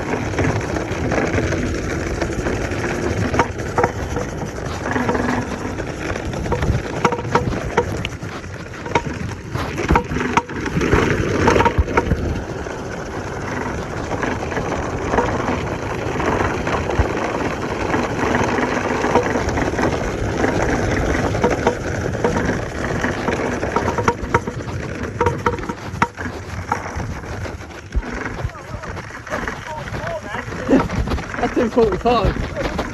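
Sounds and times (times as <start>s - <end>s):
cracks and knocks from bumps: 0.0s - 12.5s, 13.4s - 32.9s
tyres crunching over dirt and stones: 0.0s - 32.9s.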